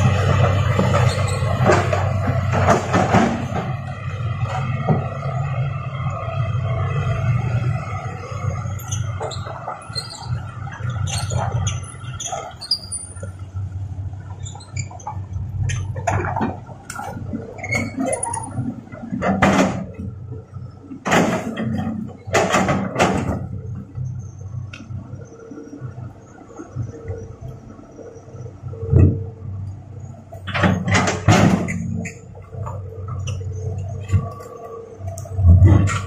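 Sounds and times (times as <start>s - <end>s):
excavator diesel hum: 0.0s - 36.0s.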